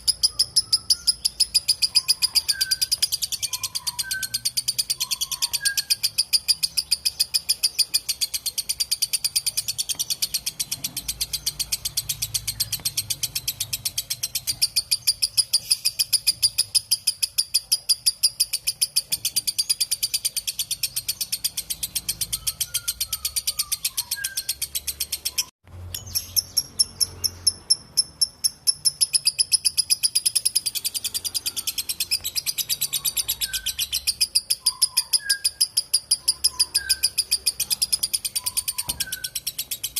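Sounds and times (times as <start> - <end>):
bird chattering rapidly: 0.0 - 39.9.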